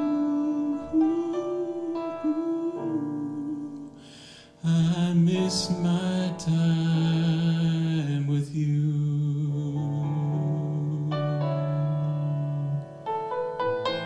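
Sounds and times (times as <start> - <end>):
slow piano and keyboard ballad: 0.0 - 14.0.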